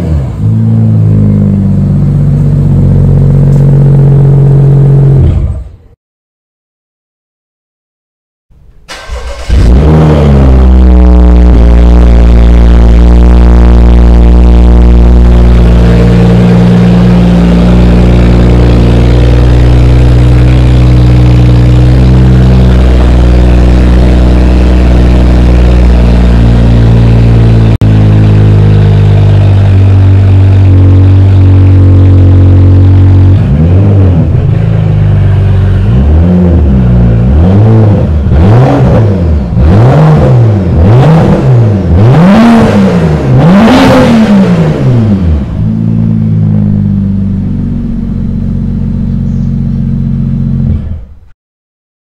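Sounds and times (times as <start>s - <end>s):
car engine revving: 0.0s - 5.9s, 8.9s - 51.1s.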